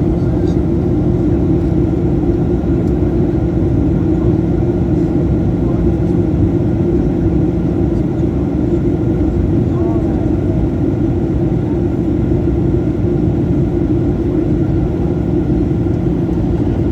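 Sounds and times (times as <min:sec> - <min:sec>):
airliner engines rumbling: 0:00.0 - 0:16.9
faint constant hum: 0:00.0 - 0:16.9.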